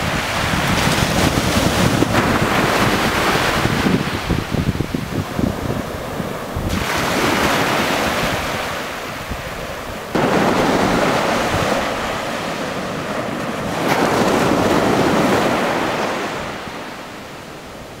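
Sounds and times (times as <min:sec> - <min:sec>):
small waves breaking on sand: 0:00.0 - 0:18.0.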